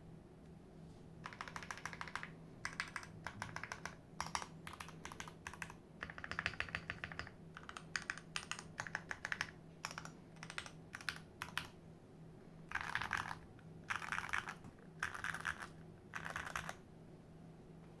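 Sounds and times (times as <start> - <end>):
mechanical keyboard typing: 1.2 - 11.8, 12.7 - 16.8.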